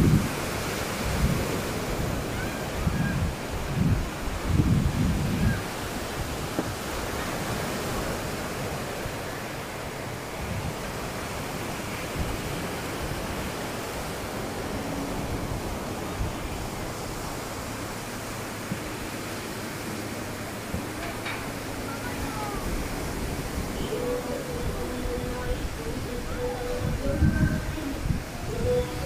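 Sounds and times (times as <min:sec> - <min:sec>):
sea surf rushing: 0:00.0 - 0:29.0
wind: 0:00.0 - 0:29.0
wind gusts on microphone: 0:00.0 - 0:29.0.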